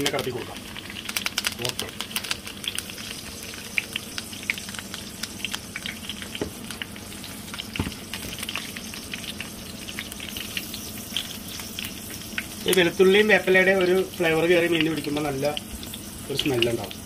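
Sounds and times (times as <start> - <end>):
fish frying in hot oil: 0.0 - 17.0.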